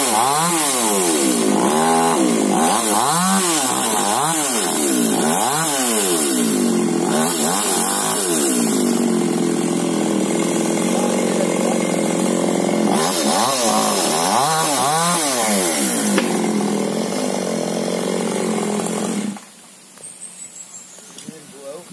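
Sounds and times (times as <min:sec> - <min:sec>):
chainsaw running: 0:00.0 - 0:19.6.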